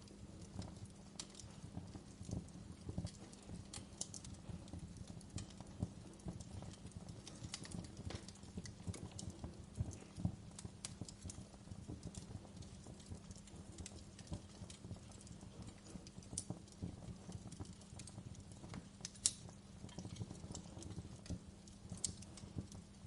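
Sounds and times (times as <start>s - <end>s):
low rumble of flames: 0.0s - 23.0s.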